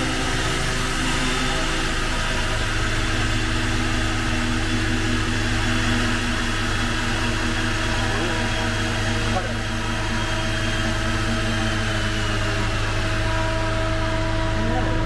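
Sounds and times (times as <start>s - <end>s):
diesel engine low hum: 0.0s - 15.0s.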